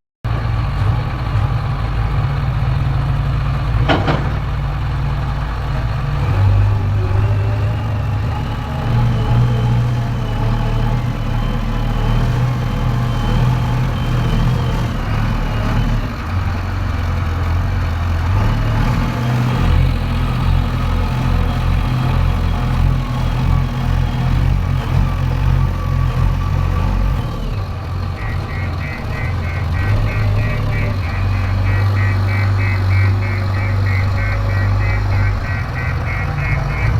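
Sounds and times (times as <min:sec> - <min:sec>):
heavy diesel engine rumbling: 0:00.3 - 0:36.9.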